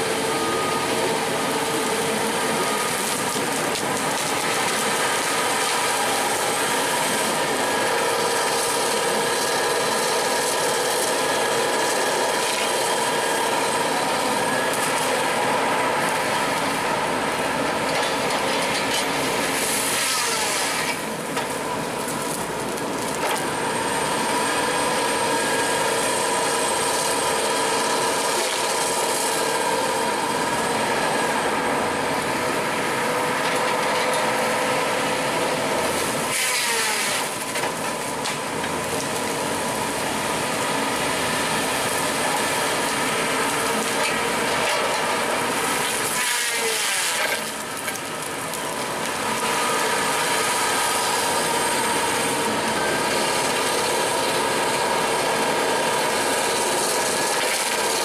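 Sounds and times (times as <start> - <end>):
engine-driven saw cutting wood: 0.0 - 58.0.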